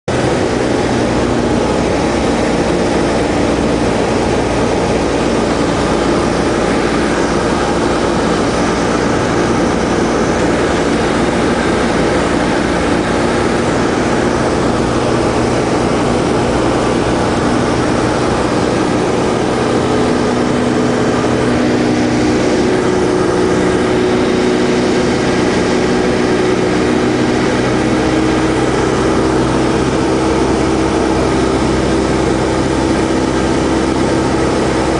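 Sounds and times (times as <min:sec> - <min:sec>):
propeller plane engine drone: 0:00.0 - 0:34.9.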